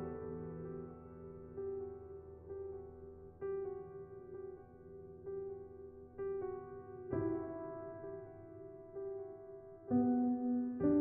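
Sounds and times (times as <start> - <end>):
soft piano chords: 0.0 - 11.0.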